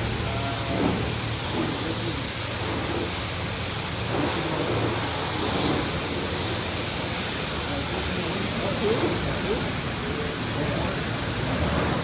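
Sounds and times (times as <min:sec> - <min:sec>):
pressure washer spraying: 0:00.0 - 0:12.0.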